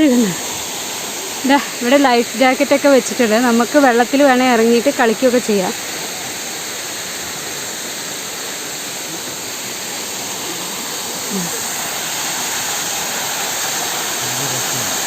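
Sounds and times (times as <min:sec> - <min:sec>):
waterfall rushing over rock: 0:00.0 - 0:15.0.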